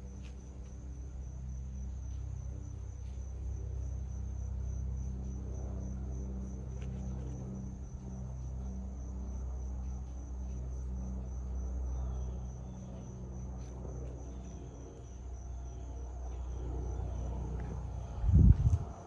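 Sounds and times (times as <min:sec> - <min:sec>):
crickets chirring: 0:00.0 - 0:19.0
steady low rumble: 0:00.0 - 0:19.0.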